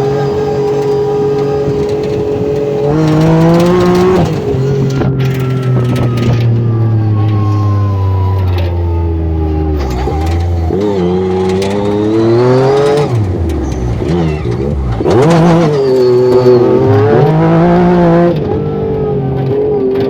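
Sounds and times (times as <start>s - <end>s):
utility vehicle engine revving: 0.0s - 20.0s.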